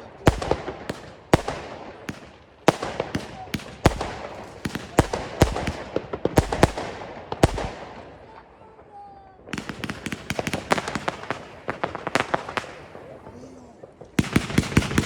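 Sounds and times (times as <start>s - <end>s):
fireworks bangs echoing: 0.0s - 15.0s.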